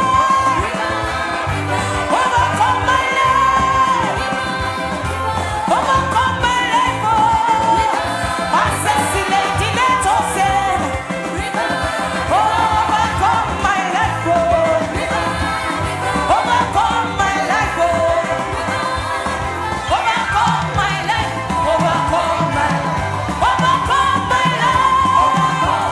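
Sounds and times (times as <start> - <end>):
band playing worship music: 0.0 - 25.9
person singing: 0.0 - 25.9.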